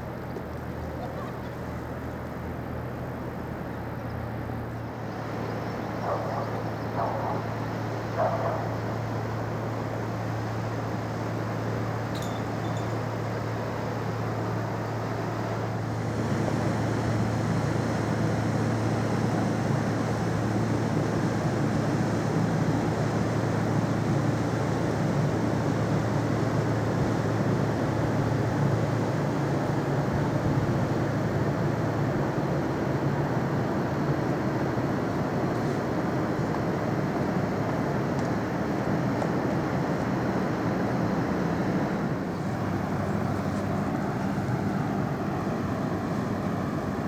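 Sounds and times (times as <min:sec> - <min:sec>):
ferry engines rumbling: 0:00.0 - 0:47.0.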